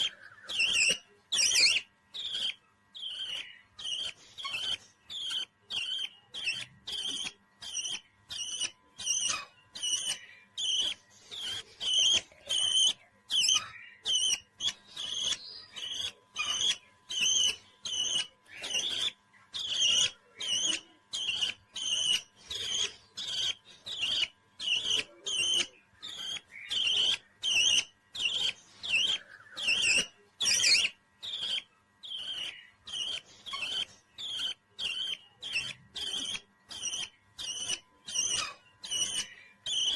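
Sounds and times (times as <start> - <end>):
parrot chirping: 0.0 - 39.9.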